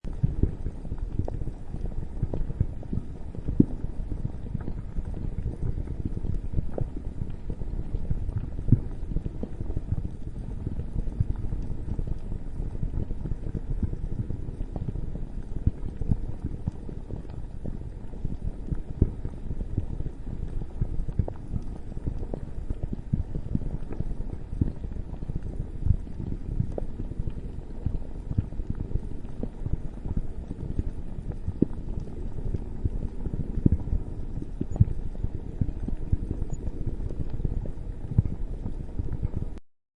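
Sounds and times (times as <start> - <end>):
lava bubbling and rumbling: 0.0 - 39.6
pops and crackles: 0.1 - 39.6.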